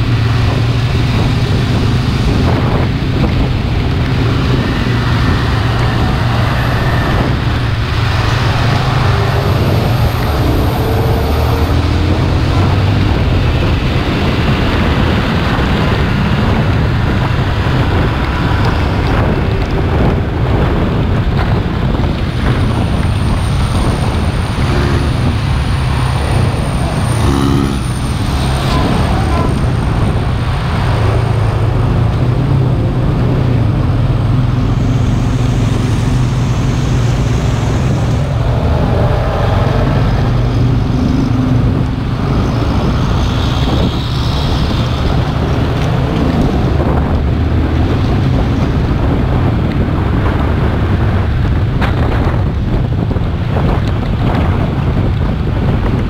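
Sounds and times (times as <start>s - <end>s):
diesel bus engines droning: 0.0s - 56.0s
wind buffeting microphone: 0.0s - 56.0s.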